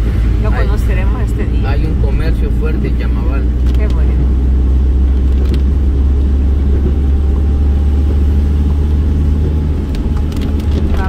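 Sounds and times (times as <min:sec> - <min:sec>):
car engine rumble: 0:00.0 - 0:11.0
tyres on wet road: 0:00.0 - 0:11.0.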